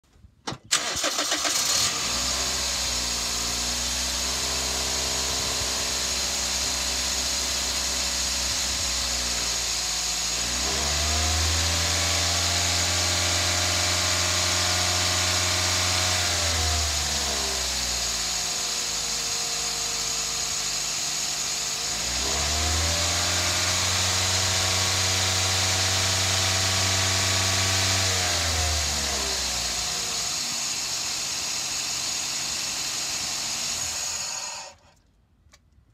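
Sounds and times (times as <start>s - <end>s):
petrol engine idling and revving: 0.7s - 34.9s.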